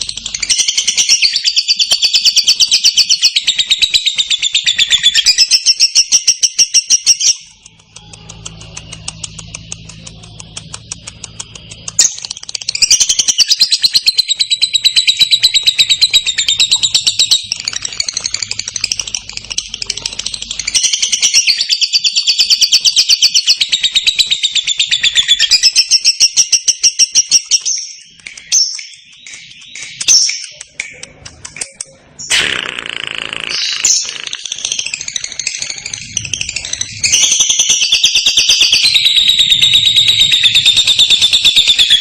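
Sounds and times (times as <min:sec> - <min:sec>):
bird chattering trill: 0:00.0 - 0:42.0.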